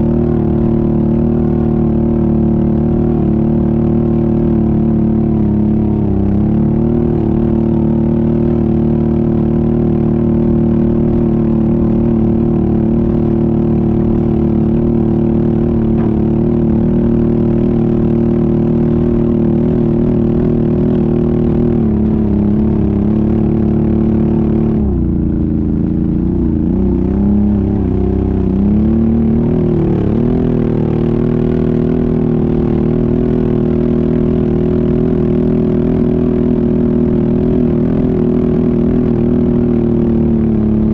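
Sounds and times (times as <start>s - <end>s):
atv engine running under load: 0.0s - 40.9s.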